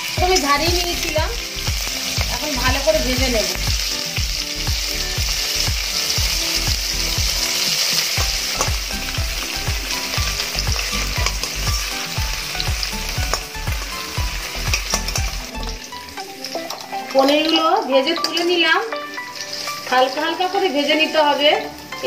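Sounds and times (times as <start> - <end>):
cheese cubes sizzling in oil: 0.0 - 22.0.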